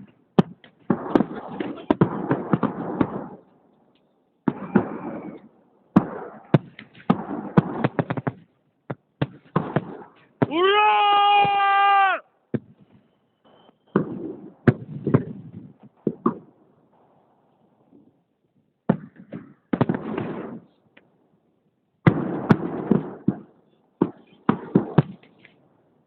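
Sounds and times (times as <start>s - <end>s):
fireworks rumbling crackle: 0.0s - 10.7s, 12.6s - 18.2s, 19.0s - 21.2s, 22.1s - 25.7s
fireworks bangs: 0.0s - 17.2s, 18.9s - 20.8s, 22.0s - 25.6s.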